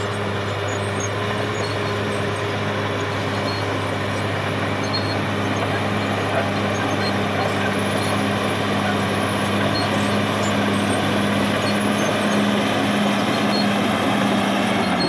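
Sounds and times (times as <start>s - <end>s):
bulldozer diesel engine drone: 0.0s - 15.0s.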